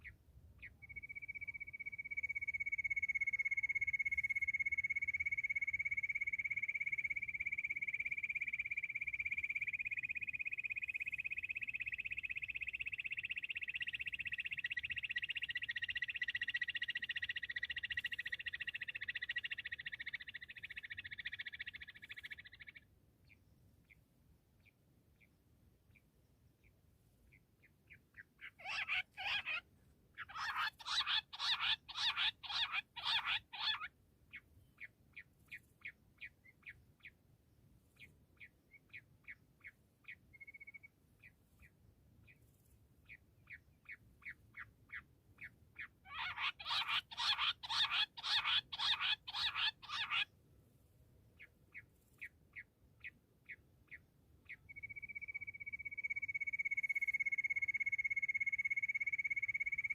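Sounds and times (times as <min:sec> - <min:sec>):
bush quail calling: 0:00.0 - 0:24.0, 0:27.6 - 0:37.2, 0:38.0 - 0:40.9, 0:43.1 - 0:50.3, 0:51.7 - 0:59.9.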